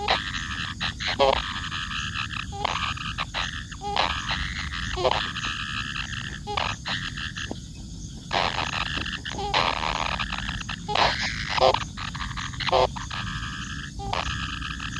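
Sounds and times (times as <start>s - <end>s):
pulsed croaking calls: 0.0s - 14.9s.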